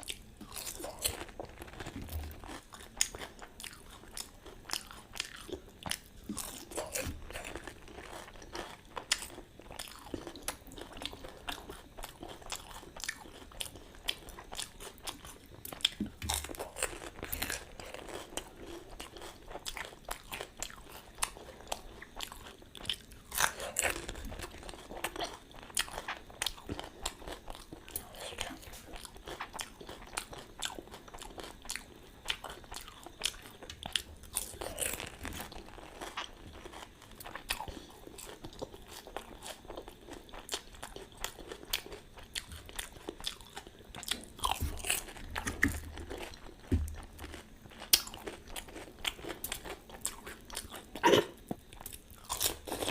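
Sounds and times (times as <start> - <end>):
crunching and chewing crisp shells: 0.0 - 52.9.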